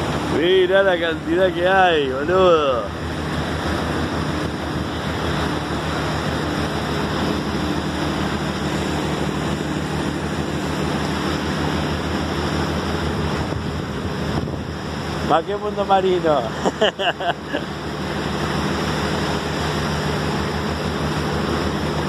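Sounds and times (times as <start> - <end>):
motorboat engine hum: 0.0 - 22.0
wind and water rushing: 0.0 - 22.0.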